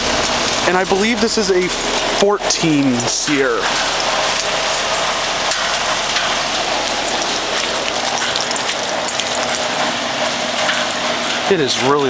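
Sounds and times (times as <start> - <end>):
heavy rain: 0.0 - 11.2
heat pump humming: 0.0 - 12.0.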